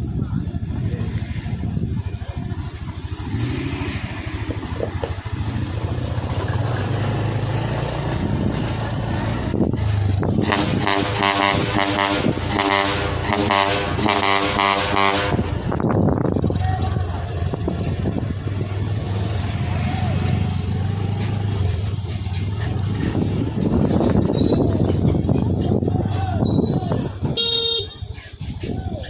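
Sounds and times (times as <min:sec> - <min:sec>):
heavy truck engine under load: 0:00.0 - 0:29.0
higher-revving engine with fast pulse: 0:00.6 - 0:25.2.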